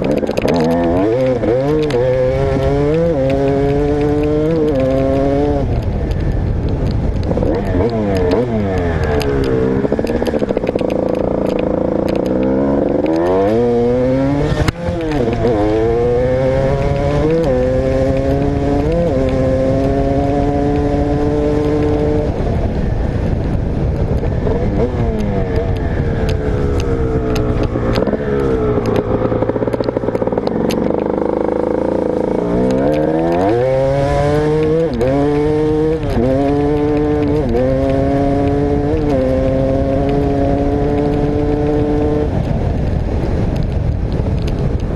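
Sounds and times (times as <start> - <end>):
motocross bike engine revving: 0.0 - 5.6, 7.3 - 22.4, 26.7 - 42.3.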